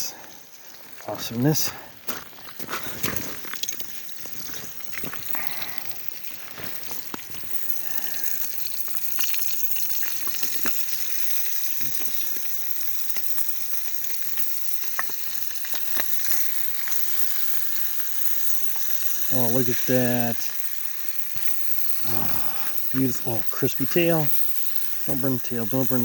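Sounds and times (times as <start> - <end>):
fish sizzling over fire: 0.0 - 26.0
pops and crackles: 0.5 - 26.0.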